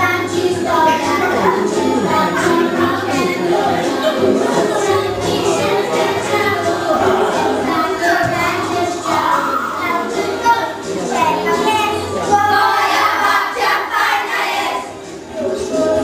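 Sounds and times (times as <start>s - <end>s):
backing music: 0.0s - 16.0s
children singing: 0.0s - 16.0s.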